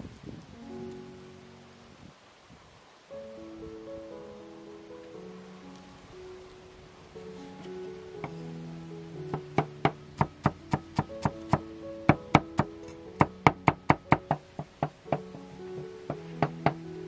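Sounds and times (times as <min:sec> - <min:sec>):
background music: 0:00.5 - 0:02.1, 0:03.0 - 0:17.0.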